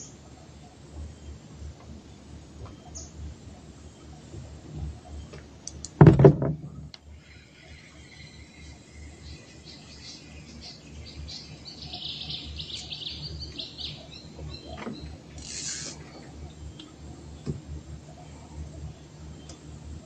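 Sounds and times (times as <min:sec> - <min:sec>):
small birds chirping: 0:00.0 - 0:05.5, 0:07.0 - 0:19.7
steady low hum: 0:00.0 - 0:20.0.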